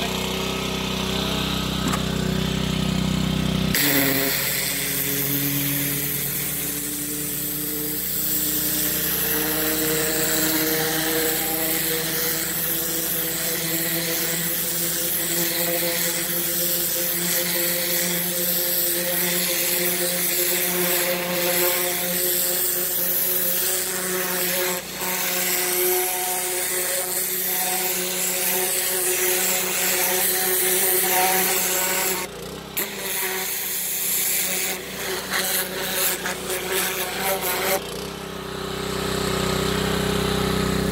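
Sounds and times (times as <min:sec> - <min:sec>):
pressure washer engine running: 0:00.0 - 0:40.9
high-pressure water spray hiss: 0:03.8 - 0:37.8.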